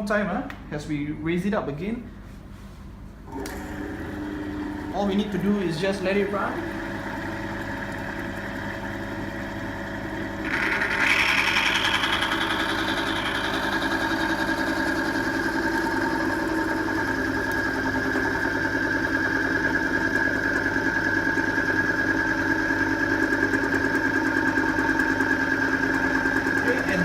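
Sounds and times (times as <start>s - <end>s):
machine motor hum with whine: 3.3s - 27.0s.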